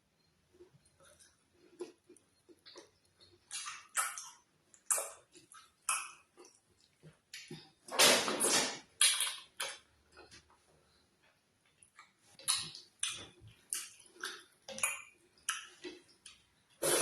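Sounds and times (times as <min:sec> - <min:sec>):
wet chewing and mouth smacking: 0:00.6 - 0:07.8, 0:09.0 - 0:10.4, 0:11.6 - 0:17.0.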